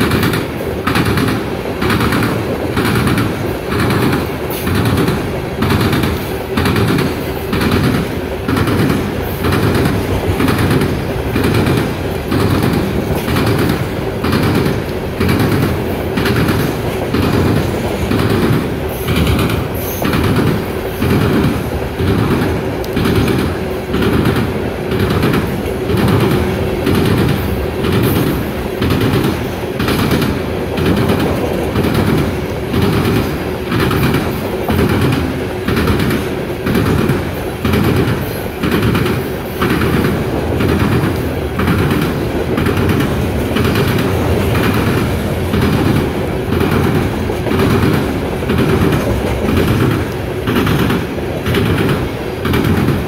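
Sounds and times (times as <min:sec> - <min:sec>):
freight train rumble: 0:00.0 - 0:53.0
train wheels clacking: 0:00.0 - 0:53.0.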